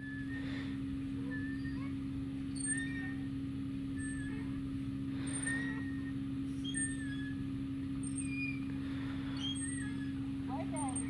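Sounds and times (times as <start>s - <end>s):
low hum: 0.0s - 11.0s
swing hangers squeaking: 0.0s - 11.0s.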